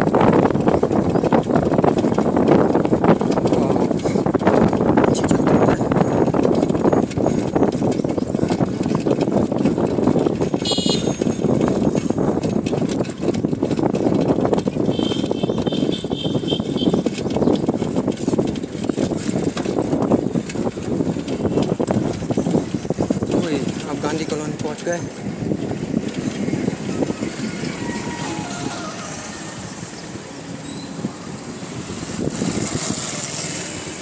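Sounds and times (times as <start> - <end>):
road noise: 0.0 - 34.0
wind rushing over microphone: 0.0 - 34.0.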